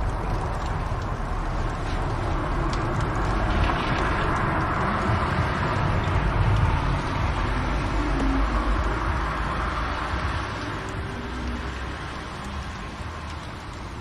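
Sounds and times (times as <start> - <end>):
fire burning in fireplace: 0.0 - 14.0.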